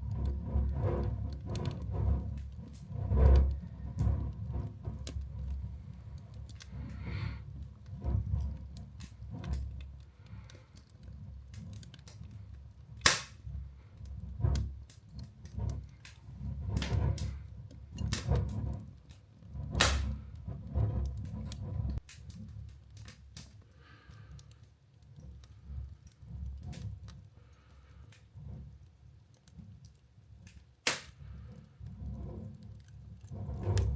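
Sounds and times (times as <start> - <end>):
sharp pops from fire: 0.0 - 27.2, 29.4 - 33.9
fire crackling in fireplace: 0.0 - 33.9.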